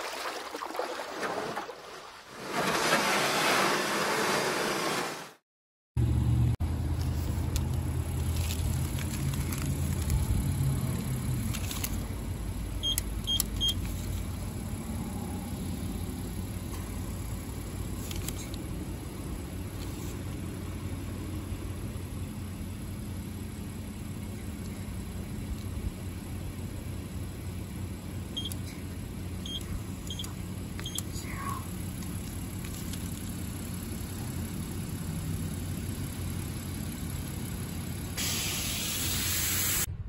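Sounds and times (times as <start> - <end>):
car idling: 6.0 - 38.2.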